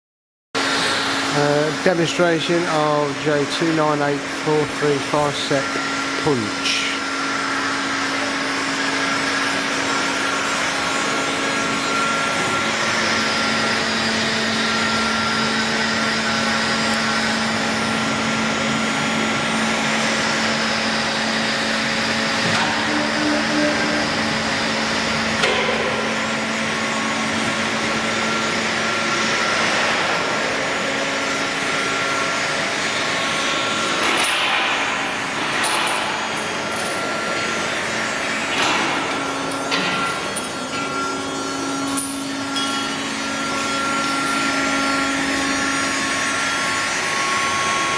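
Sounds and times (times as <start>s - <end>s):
punching machine hum and whine: 0.6s - 47.9s.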